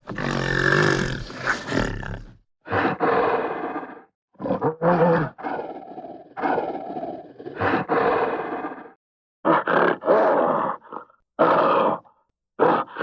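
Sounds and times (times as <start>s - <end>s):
gorilla grunting: 0.0s - 13.0s
gorilla roaring: 0.0s - 13.0s.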